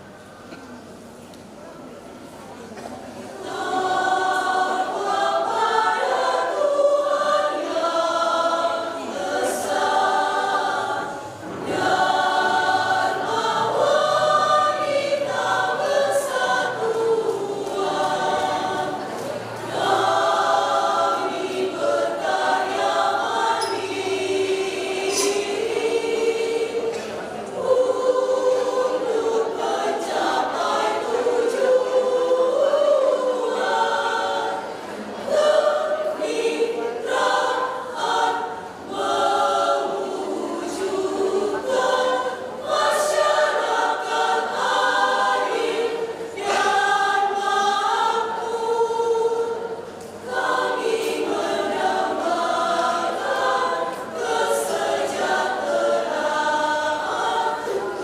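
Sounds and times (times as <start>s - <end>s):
women's choir singing: 2.7s - 58.0s.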